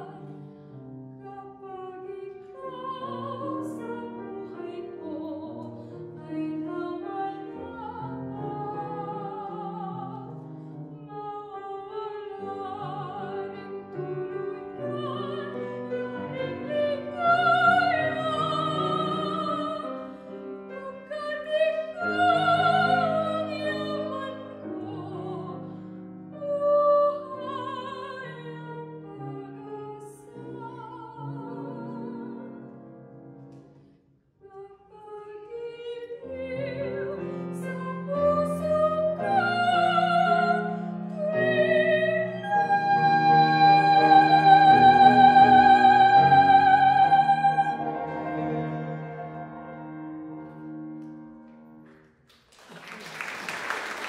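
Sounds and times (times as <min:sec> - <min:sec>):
grand piano accompaniment: 0:00.0 - 0:54.0
soprano singing operatically: 0:01.2 - 0:10.4, 0:11.0 - 0:25.7, 0:26.4 - 0:32.7, 0:34.5 - 0:49.5.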